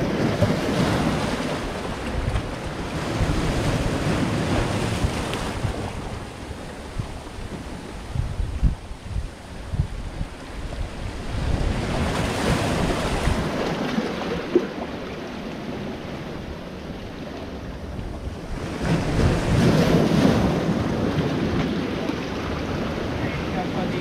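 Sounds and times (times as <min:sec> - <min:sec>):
waves breaking on rocks: 0:00.0 - 0:24.0.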